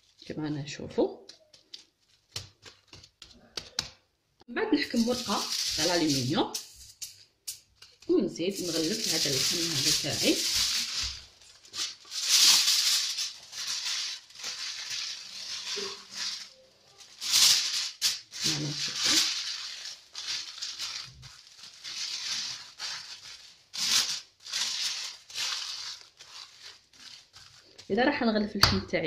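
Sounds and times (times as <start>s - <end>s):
aluminium foil crinkling: 0.0s - 4.0s, 4.8s - 28.6s.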